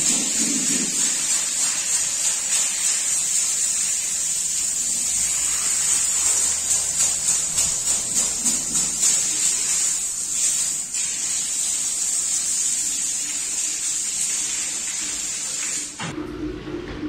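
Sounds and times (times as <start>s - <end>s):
pressure washer spraying water: 0.0s - 16.0s.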